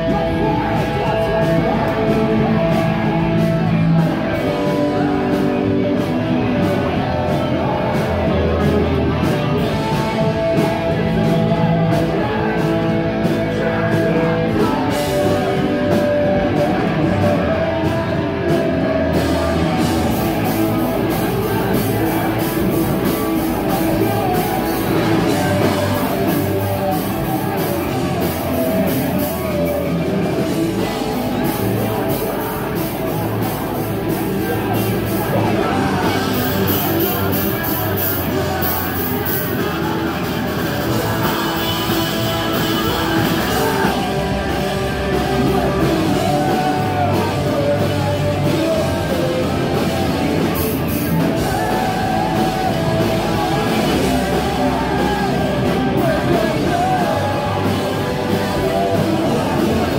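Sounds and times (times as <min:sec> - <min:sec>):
drums: 0:00.0 - 0:59.9
guitar: 0:00.0 - 0:59.9
shouted singing into microphone: 0:00.0 - 0:59.9.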